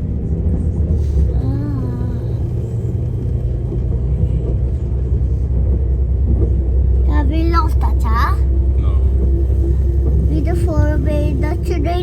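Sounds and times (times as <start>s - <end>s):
train running rumble inside carriage: 0.0s - 12.0s.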